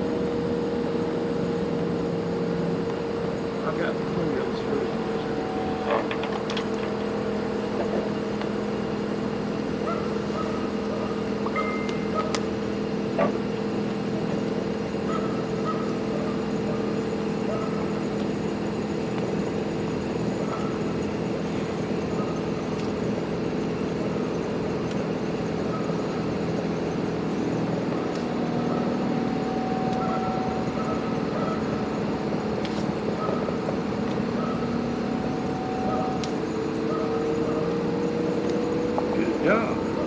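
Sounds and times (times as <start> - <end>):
hvac unit humming: 0.0 - 40.0.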